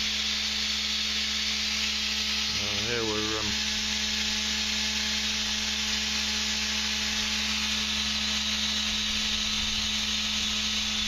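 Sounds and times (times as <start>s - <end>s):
low machine hum: 0.0s - 11.0s
machine hissing: 0.0s - 11.0s.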